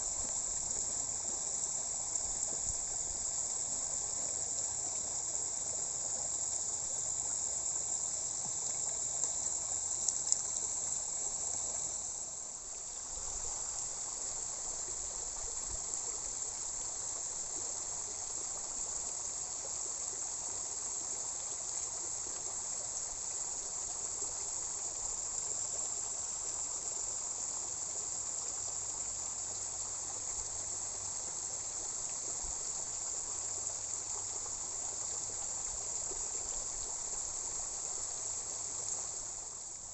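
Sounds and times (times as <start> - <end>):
crickets chirping: 0.0 - 39.9
water hiss: 0.0 - 39.9.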